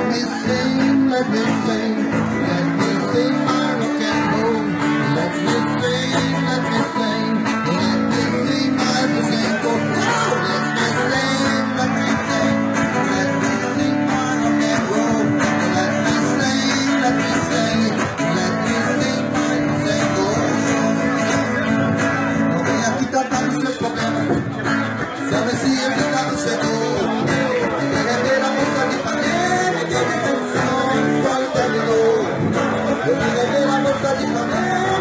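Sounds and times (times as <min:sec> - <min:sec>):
live band guitars playing: 0:00.0 - 0:35.0
person singing: 0:00.0 - 0:35.0.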